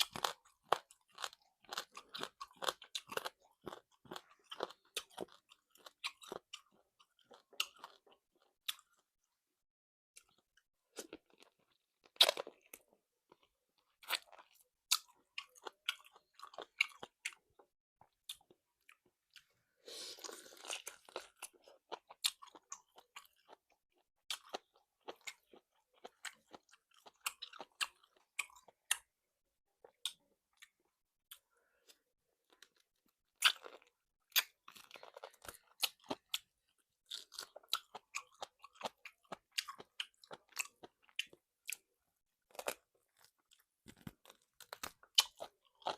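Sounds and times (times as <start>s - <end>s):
chewing crunchy chicken: 0.0s - 9.3s, 10.2s - 29.2s, 29.8s - 45.9s.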